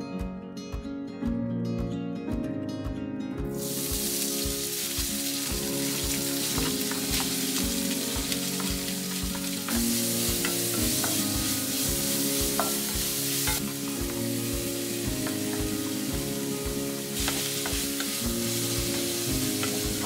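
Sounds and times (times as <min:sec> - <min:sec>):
food sizzling in frying pan: 0:03.6 - 0:20.0.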